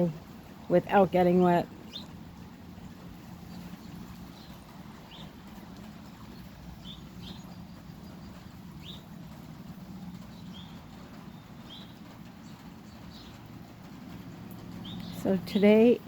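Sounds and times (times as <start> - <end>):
songbird chirping: 0.0 - 16.0
steady rain falling: 0.0 - 16.0.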